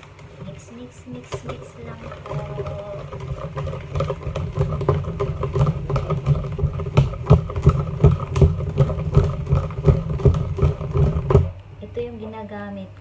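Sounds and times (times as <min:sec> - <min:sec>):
whisk scraping in plastic tub: 0:00.0 - 0:11.6.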